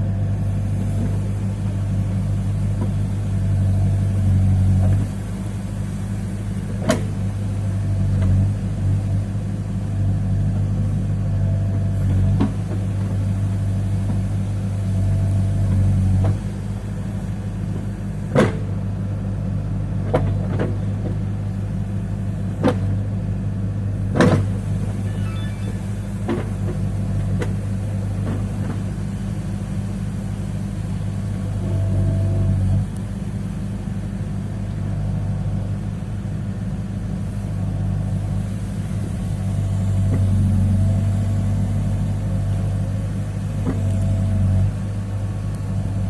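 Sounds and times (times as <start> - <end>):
backhoe diesel engine running: 0.0 - 46.0.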